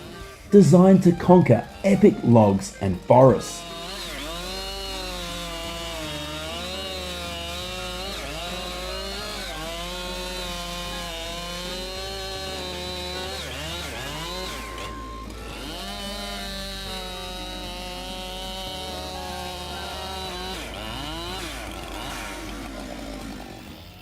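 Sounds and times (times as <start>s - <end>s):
chainsaw cutting a log: 0.0s - 24.0s.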